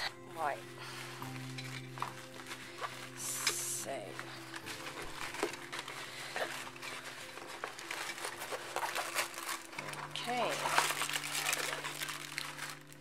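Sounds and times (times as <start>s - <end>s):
canvas and plastic film crinkling: 0.0s - 13.0s.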